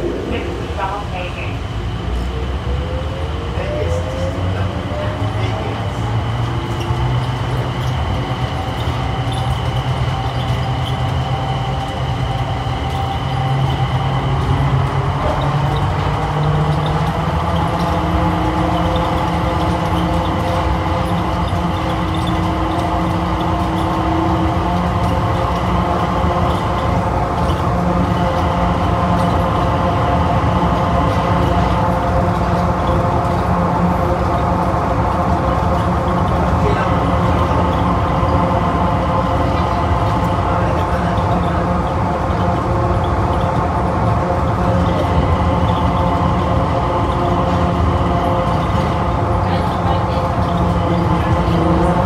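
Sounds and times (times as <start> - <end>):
train rumble with motor whine: 0.0 - 52.0.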